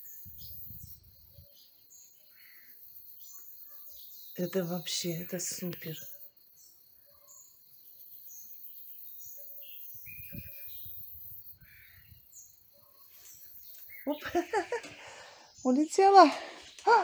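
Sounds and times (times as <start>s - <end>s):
birds calling and chirping: 0.0s - 17.0s.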